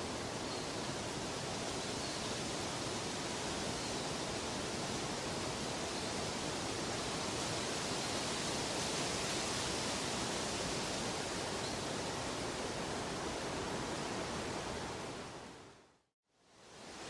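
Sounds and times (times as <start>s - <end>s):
steady rushing hiss: 0.0s - 15.8s.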